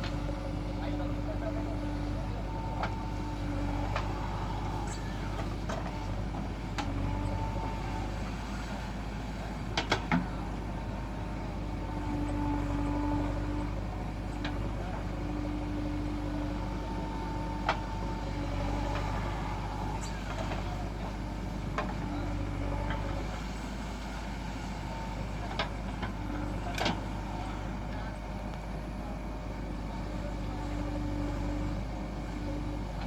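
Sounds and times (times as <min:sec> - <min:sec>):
diesel engine under load: 0:00.0 - 0:33.0.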